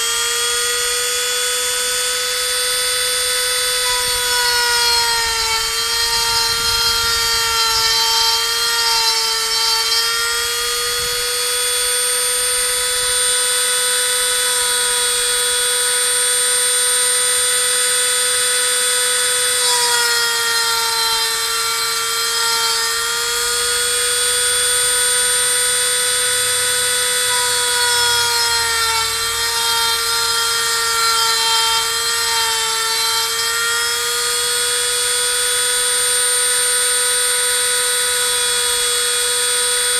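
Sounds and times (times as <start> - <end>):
rotary tool milling wood whine: 0.0 - 39.9.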